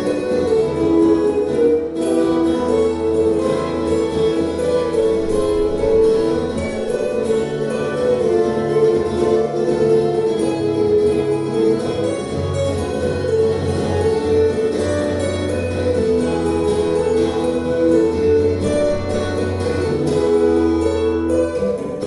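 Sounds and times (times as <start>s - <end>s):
acoustic guitars playing: 0.0s - 22.0s.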